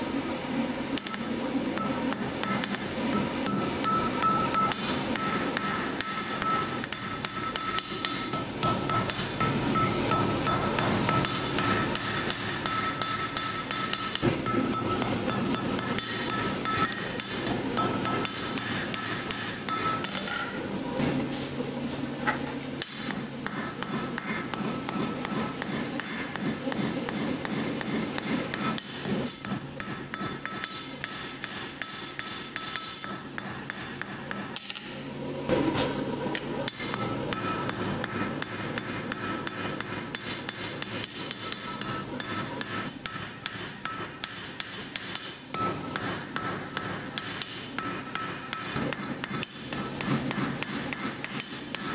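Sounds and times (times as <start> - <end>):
hammer striking iron on anvil: 1.0 - 1.2, 1.8 - 20.6, 22.8 - 35.0, 35.7 - 51.9.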